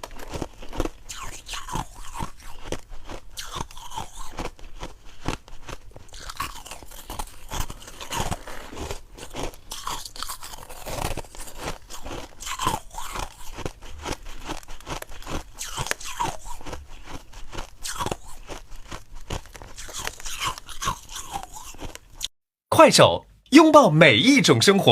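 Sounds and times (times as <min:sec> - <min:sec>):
ice crunching being chewed: 0:00.0 - 0:22.3.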